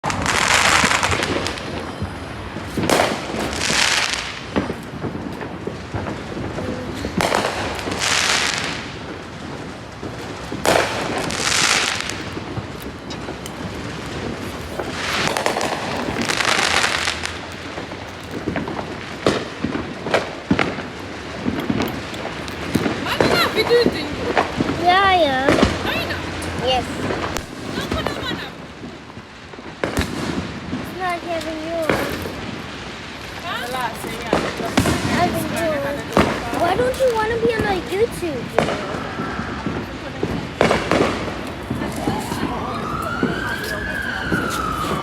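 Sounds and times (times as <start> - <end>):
fireworks banging: 0.0 - 45.0
fireworks hissing bursts: 0.0 - 45.0.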